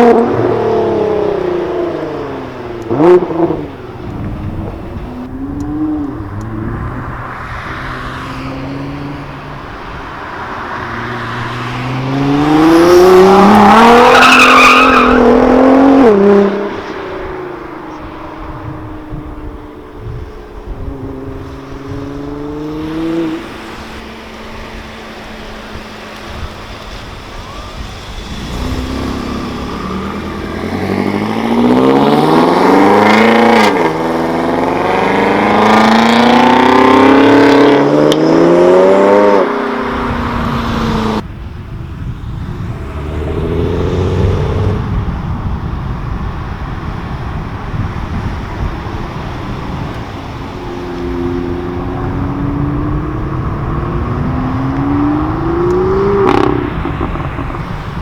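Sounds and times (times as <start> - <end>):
quieter engine revving: 0.0 - 58.0
sports car engine accelerating: 0.0 - 58.0.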